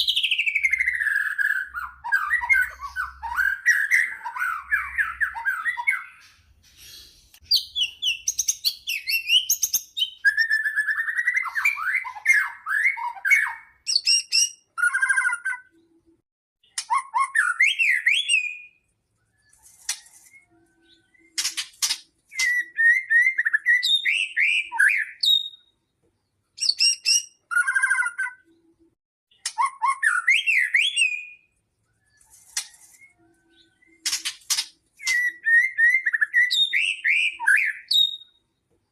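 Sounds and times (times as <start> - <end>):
songbird whistles and trills: 0.0 - 25.9, 26.5 - 38.9.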